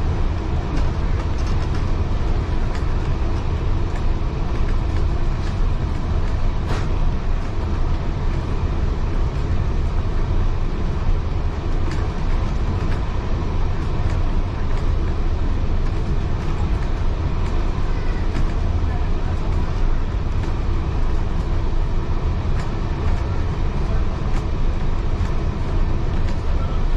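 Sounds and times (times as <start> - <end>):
railway carriage rumbling on track: 0.0 - 26.9.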